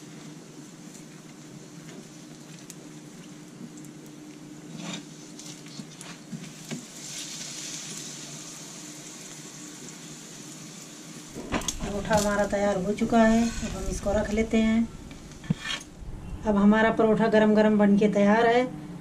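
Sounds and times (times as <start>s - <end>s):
flatbread sizzling: 0.0s - 15.8s.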